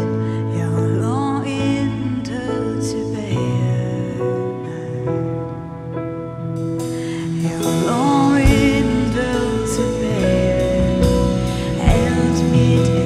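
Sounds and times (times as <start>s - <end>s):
person singing: 0.0s - 5.6s, 6.8s - 13.0s
electric bass: 0.0s - 13.0s
keyboard chords: 0.0s - 13.0s.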